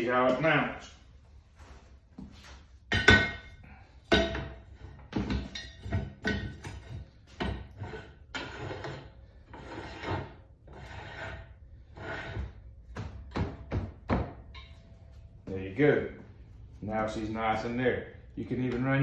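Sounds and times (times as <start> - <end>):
metal clunks and scraping: 2.2 - 19.0.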